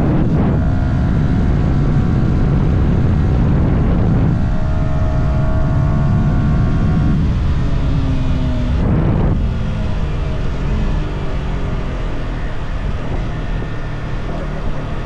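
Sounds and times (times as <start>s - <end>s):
motorcycle engine accelerating: 0.0s - 15.0s
wind rush: 0.0s - 15.0s.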